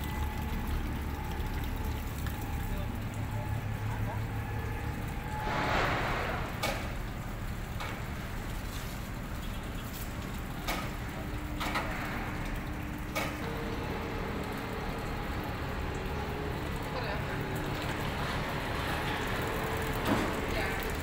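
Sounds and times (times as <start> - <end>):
boat hoist mechanical rumble: 0.0 - 21.0.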